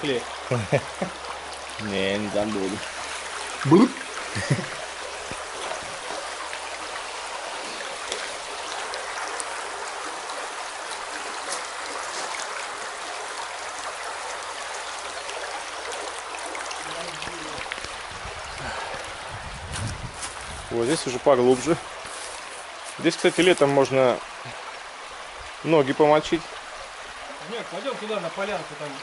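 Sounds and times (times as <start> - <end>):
small water splashes: 0.0 - 29.0
stream rushing water: 0.0 - 29.0.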